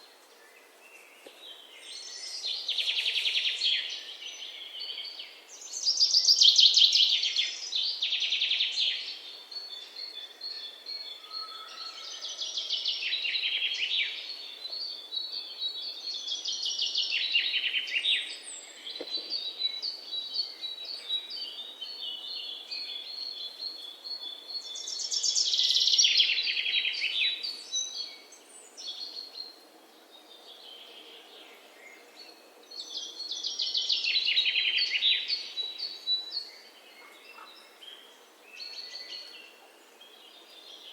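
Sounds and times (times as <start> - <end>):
birds trilling song: 0.0 - 40.9.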